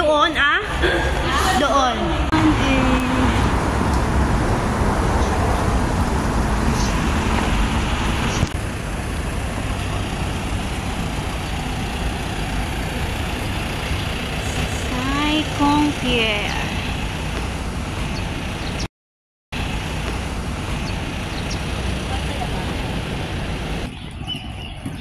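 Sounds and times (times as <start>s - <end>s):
street traffic rumble: 0.0s - 18.9s, 19.5s - 25.0s.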